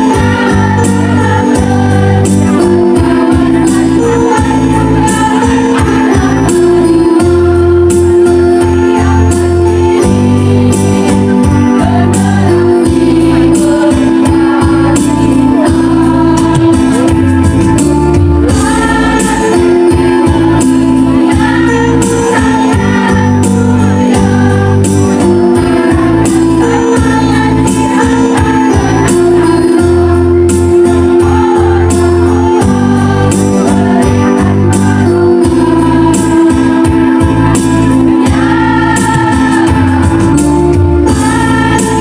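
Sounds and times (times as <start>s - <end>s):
backing music with steady beat: 0.0s - 42.0s
women's choir singing: 0.0s - 42.0s.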